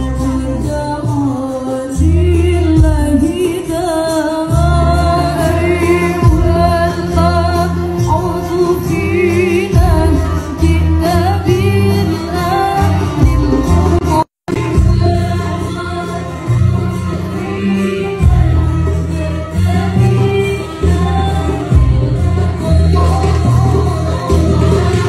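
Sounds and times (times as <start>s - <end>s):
bass backing: 0.0s - 25.0s.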